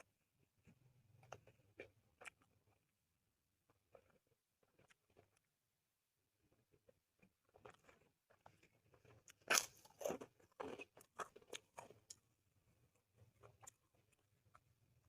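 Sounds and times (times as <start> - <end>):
person chewing crunchy food: 0.6 - 2.9, 3.6 - 5.5, 6.4 - 14.8.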